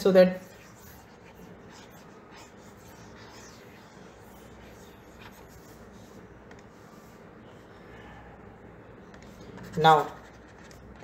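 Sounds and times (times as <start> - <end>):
stylus scratching on tablet: 0.0 - 7.7, 9.0 - 11.0
low room noise: 0.0 - 11.0.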